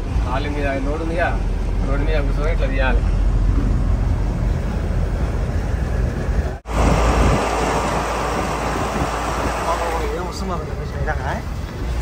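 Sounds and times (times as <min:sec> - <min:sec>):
lorry engine rumble: 0:00.0 - 0:12.0
road noise: 0:00.0 - 0:12.0.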